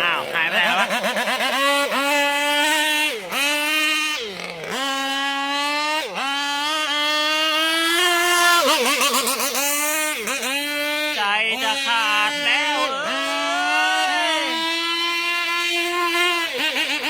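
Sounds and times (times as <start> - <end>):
two-stroke boat engine revving: 0.0 - 17.0.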